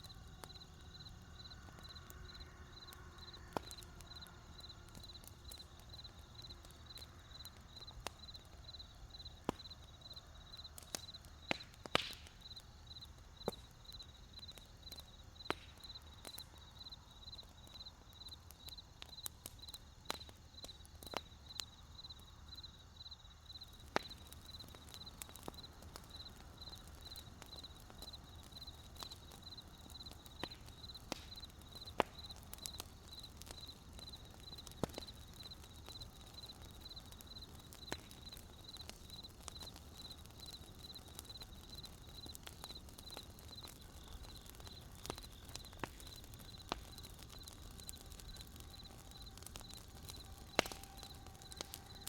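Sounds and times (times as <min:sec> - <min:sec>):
campfire crackling and popping: 0:00.0 - 0:52.0
crickets chirping: 0:00.0 - 0:52.0.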